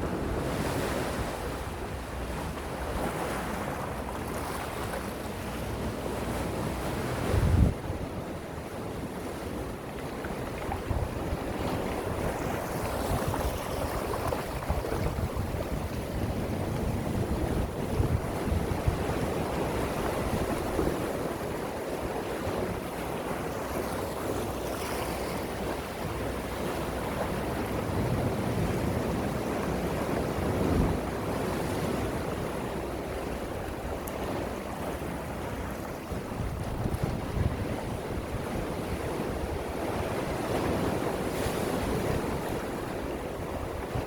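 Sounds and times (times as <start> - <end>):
sea waves washing ashore: 0.0 - 44.0
wind buffeting microphone: 0.0 - 44.0.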